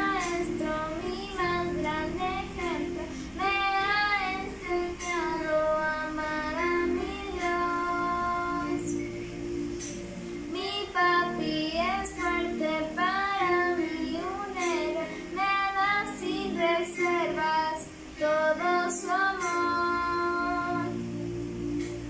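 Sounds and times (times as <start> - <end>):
girl singing: 0.0 - 9.2, 10.5 - 21.2
instrumental backing track: 0.0 - 22.0.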